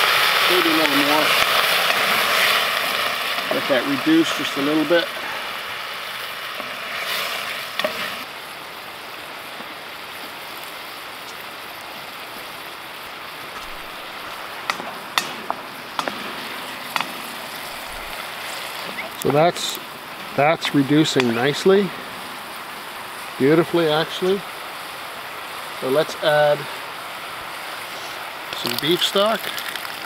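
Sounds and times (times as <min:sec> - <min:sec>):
vegetables and wine sizzling: 0:00.0 - 0:30.0.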